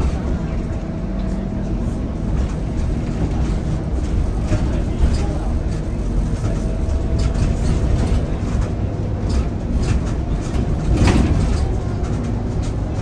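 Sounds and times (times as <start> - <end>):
bus engine and road rumble: 0.0 - 13.0
body rattles: 1.9 - 13.0
loud clatter: 2.0 - 13.0.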